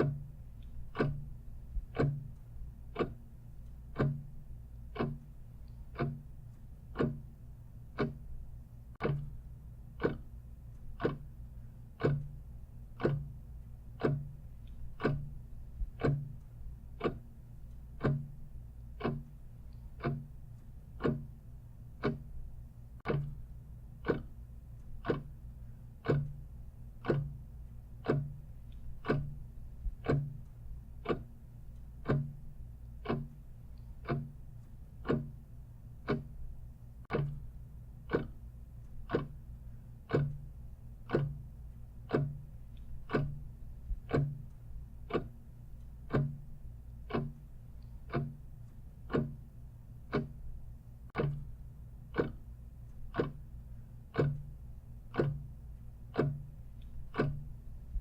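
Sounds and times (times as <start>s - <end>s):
clock ticking: 0.0s - 58.0s
faint low hum: 0.0s - 58.0s.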